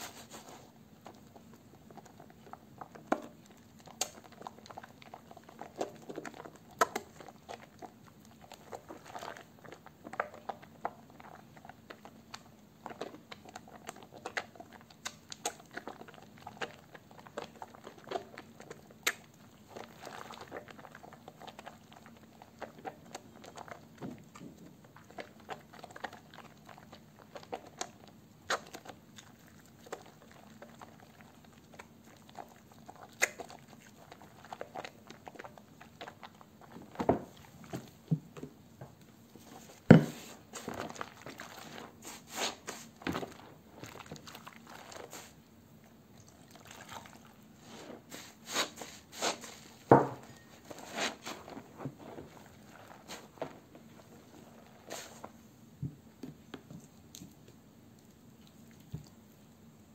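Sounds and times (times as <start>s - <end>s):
wet soap squishing: 0.0s - 59.9s.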